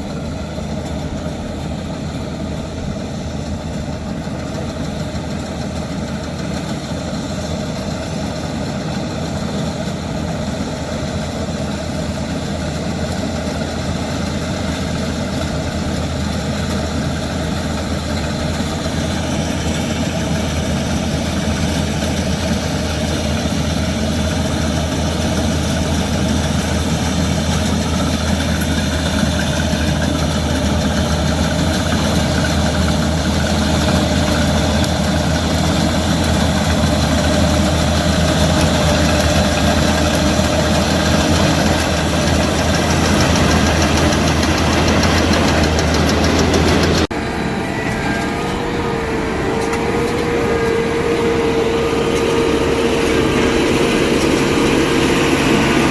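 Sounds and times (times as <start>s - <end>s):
combine harvester engine hum: 0.0s - 55.9s
steady whine: 0.0s - 55.9s.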